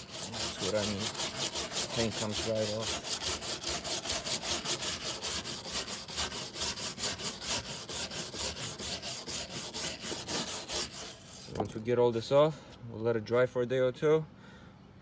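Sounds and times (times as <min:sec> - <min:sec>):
stiff brush scrubbing wood: 0:00.0 - 0:12.4.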